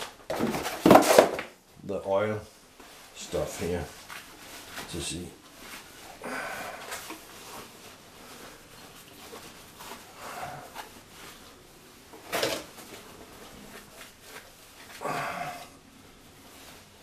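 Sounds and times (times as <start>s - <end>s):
cloth rubbing and rustling: 2.7s - 17.0s.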